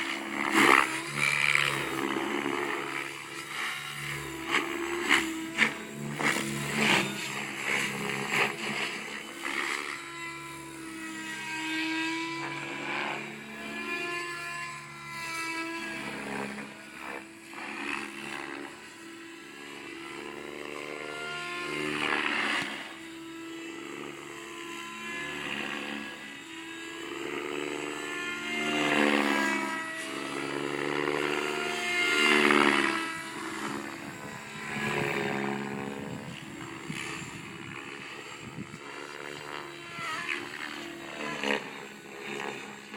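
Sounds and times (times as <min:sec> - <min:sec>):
rc helicopter rotor whining: 0:00.0 - 0:42.9.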